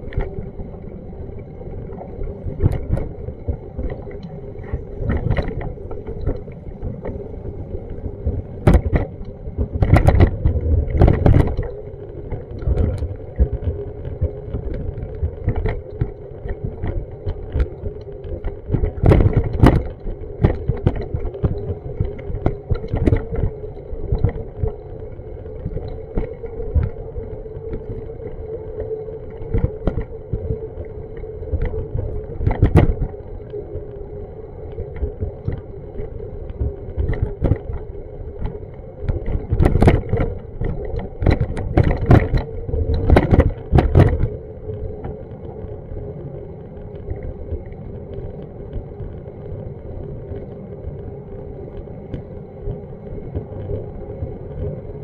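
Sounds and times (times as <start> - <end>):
low rumble with hum: 0.0 - 55.0.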